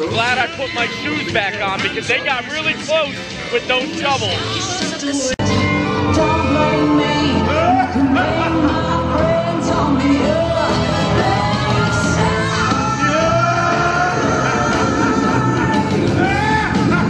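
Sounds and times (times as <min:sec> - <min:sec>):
song with singing voice: 0:00.0 - 0:17.0.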